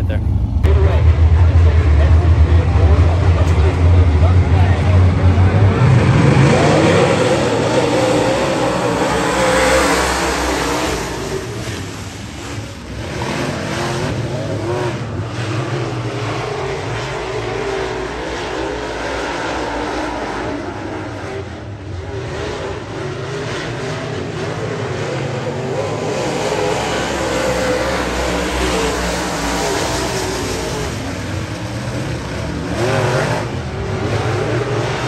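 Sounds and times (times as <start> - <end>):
race car engines: 0.0 - 35.0.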